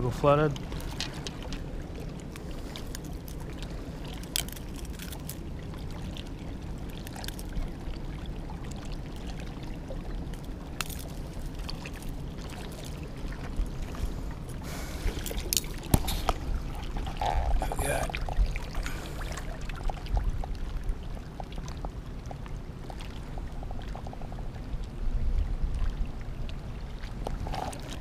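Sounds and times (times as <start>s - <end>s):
rush of water and wind: 0.0s - 28.0s.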